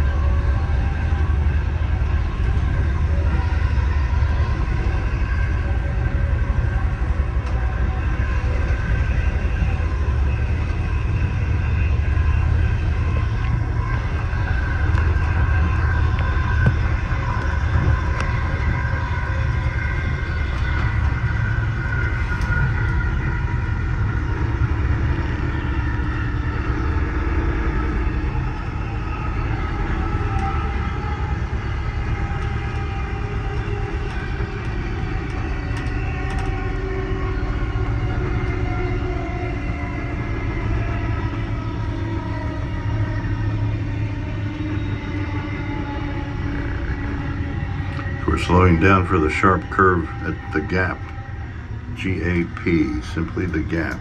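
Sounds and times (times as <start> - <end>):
faint whining tones: 0.0 - 54.0
train wheels rumbling on rail: 0.0 - 54.0.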